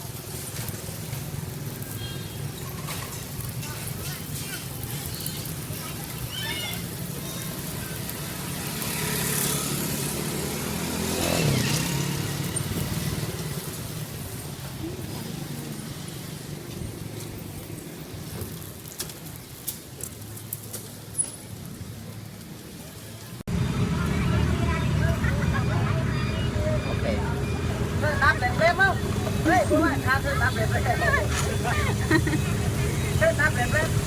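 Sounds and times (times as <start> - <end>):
vehicle engines in traffic: 0.0 - 34.0.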